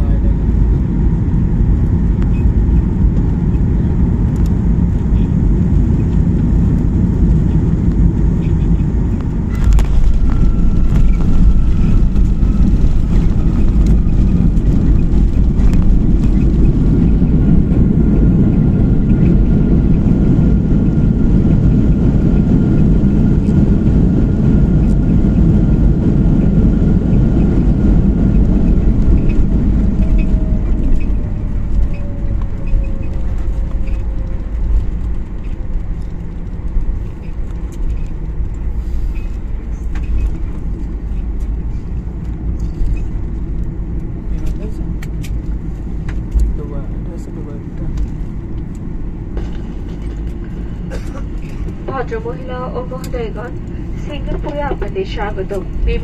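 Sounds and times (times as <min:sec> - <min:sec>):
engine whine sliding down: 0:00.0 - 0:56.0
jet engines roaring: 0:00.0 - 0:56.0.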